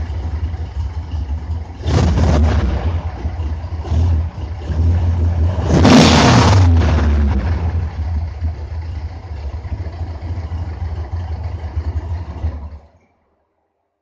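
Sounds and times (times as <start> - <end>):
engine idling: 0.0 - 13.2.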